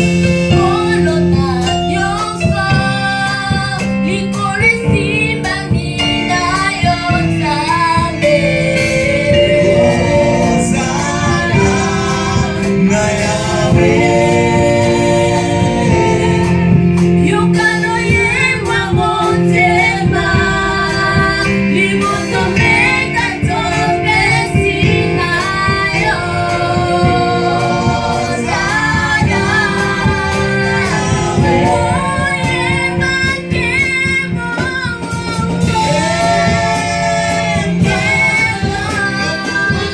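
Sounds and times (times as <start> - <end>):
choir singing gospel song: 0.0 - 39.9
instrumental backing with steady beat: 0.0 - 39.9.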